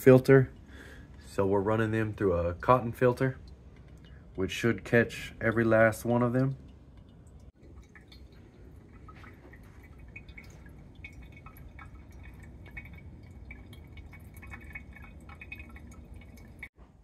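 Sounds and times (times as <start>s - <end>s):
water dripping and trickling: 0.0s - 16.8s.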